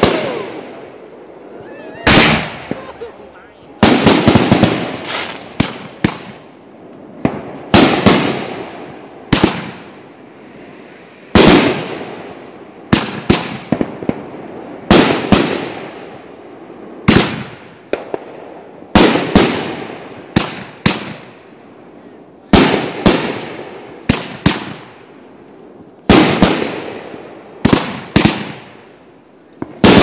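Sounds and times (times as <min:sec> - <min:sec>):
fireworks bangs with echo: 0:00.0 - 0:29.0, 0:29.6 - 0:30.0.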